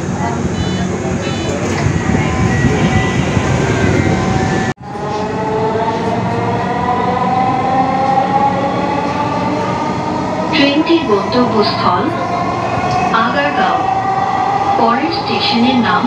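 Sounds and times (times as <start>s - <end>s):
metro train running hum: 0.0s - 16.0s.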